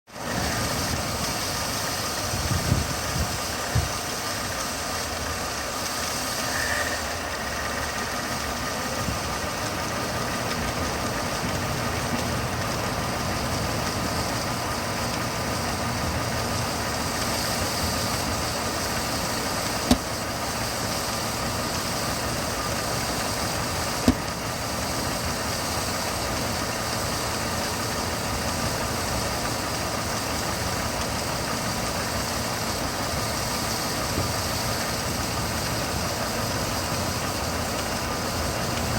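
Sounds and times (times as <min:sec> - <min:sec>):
car engine idling with hiss: 0:00.1 - 0:38.9.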